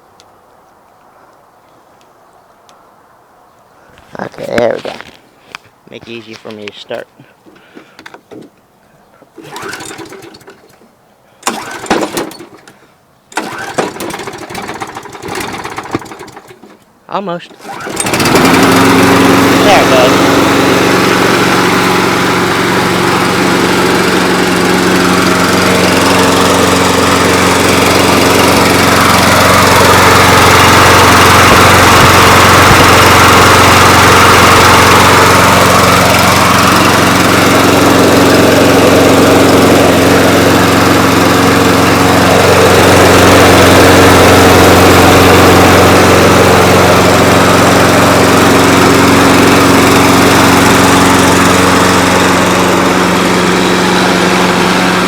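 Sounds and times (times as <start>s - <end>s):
lawn mower engine running: 9.3s - 55.0s.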